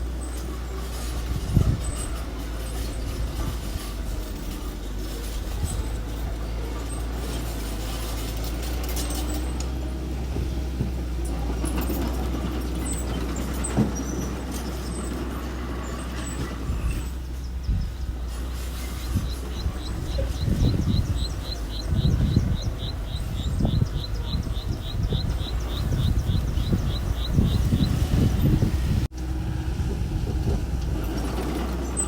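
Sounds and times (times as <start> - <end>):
earthmoving machine engine humming: 0.0 - 32.0.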